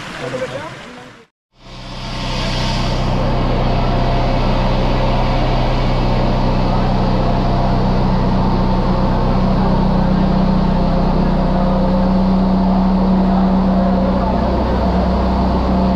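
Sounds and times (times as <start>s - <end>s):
churning water rushing: 0.0s - 15.9s
machine hum: 1.6s - 15.9s.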